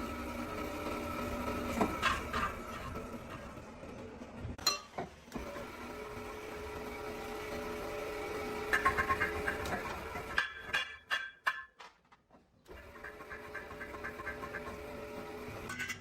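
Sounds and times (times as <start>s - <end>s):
workshop machine humming: 0.0s - 11.1s, 12.6s - 16.0s.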